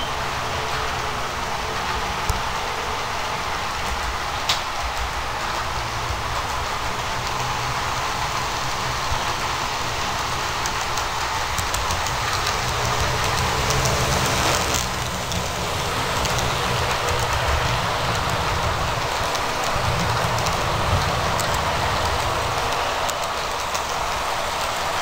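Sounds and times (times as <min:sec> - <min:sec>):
model train rumbling on track: 0:00.0 - 0:25.0
wheels clicking over rail joints: 0:00.0 - 0:25.0.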